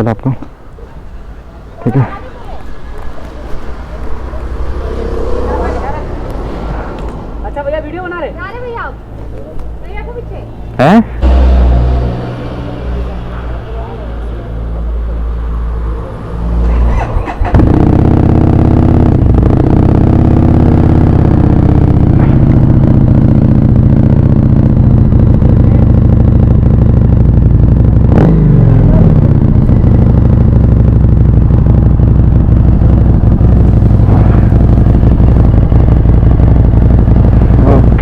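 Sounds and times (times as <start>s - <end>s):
motorcycle engine idling: 7.4s - 38.0s.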